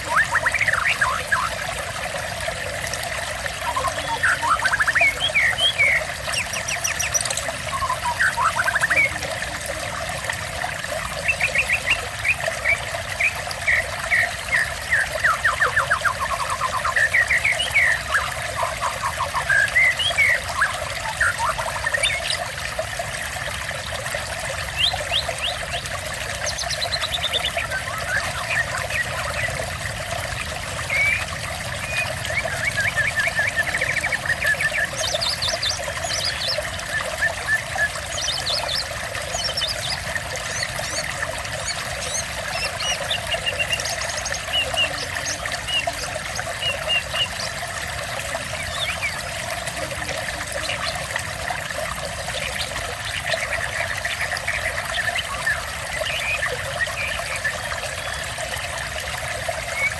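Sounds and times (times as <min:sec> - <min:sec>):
small birds chirping and trilling: 0:00.0 - 0:23.2, 0:24.2 - 0:59.9
water trickling and pouring: 0:00.0 - 0:59.9.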